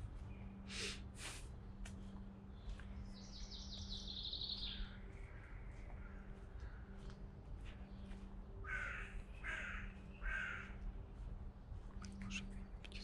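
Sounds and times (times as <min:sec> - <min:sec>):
scuffing noises: 0:01.2 - 0:12.6.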